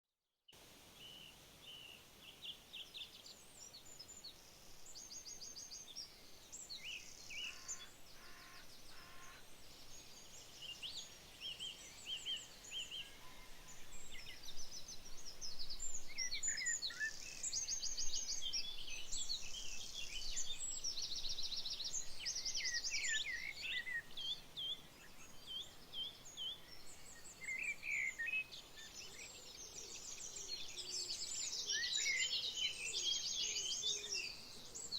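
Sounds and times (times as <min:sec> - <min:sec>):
birds chirping and trilling: 0:01.8 - 0:34.9.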